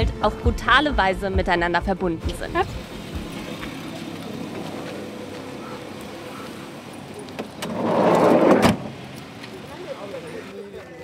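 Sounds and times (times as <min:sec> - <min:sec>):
street ambience: 0:00.0 - 0:11.0.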